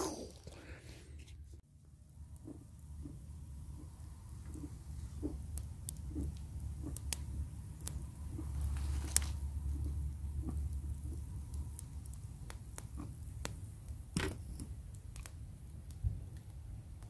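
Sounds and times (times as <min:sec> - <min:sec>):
small clicks and pops: 0:02.3 - 0:17.0.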